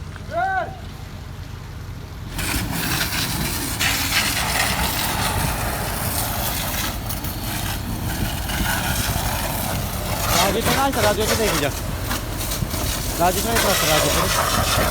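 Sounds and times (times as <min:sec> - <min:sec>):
diesel engine running: 0:00.0 - 0:14.9
water spray hissing: 0:02.3 - 0:14.9.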